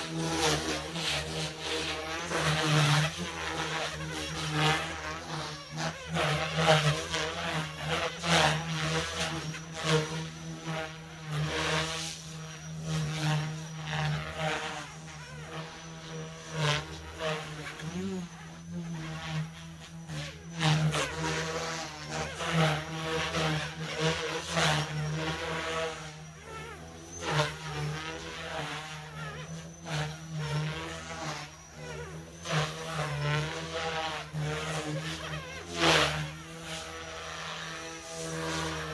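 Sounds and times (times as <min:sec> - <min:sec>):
rotor blades buzzing: 0:00.0 - 0:38.9
toy helicopter motor whine: 0:00.0 - 0:38.9.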